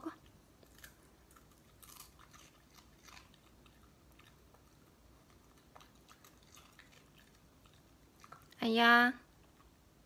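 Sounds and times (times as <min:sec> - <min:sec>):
dog chewing crunchy treat: 0:00.2 - 0:09.7.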